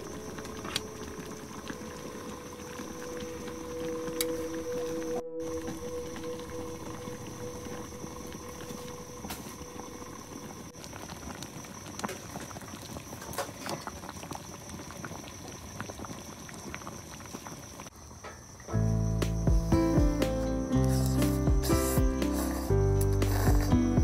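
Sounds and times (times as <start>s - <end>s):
soup boiling and bubbling: 0.0s - 18.7s, 20.7s - 24.0s.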